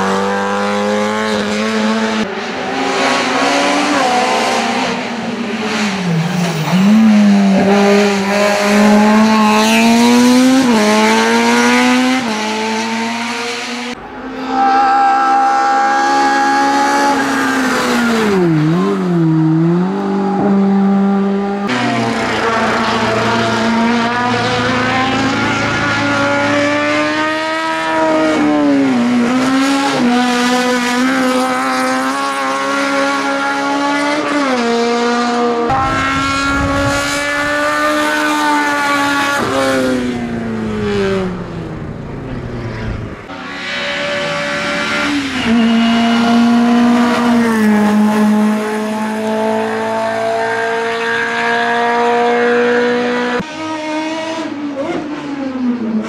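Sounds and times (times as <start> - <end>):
car engine revving at full throttle: 0.0 - 56.0.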